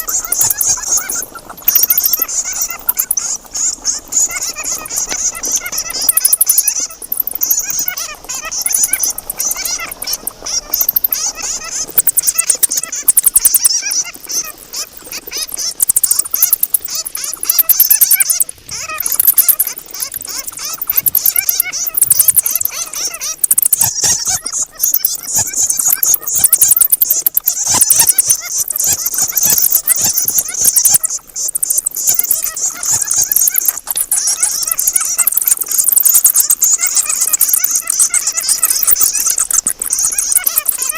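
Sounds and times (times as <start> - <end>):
bats squeaking and clicking: 0.0 - 40.9.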